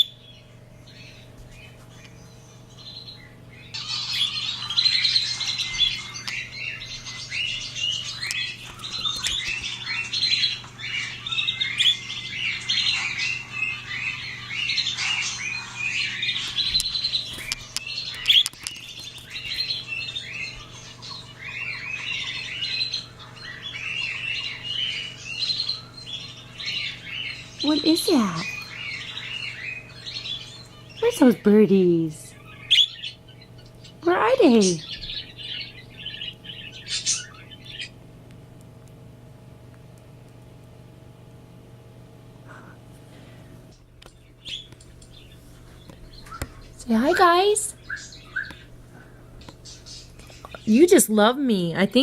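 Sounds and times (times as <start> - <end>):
budgies chattering and chirping: 0.0 - 38.0, 42.5 - 51.1.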